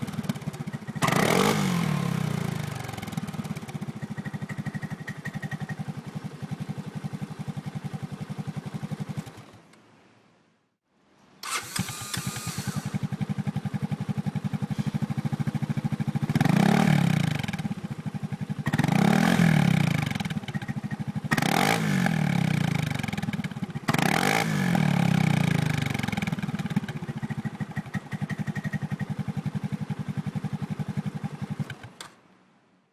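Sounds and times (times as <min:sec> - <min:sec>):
scooter engine idling and revving: 0:00.0 - 0:09.7, 0:11.5 - 0:32.2.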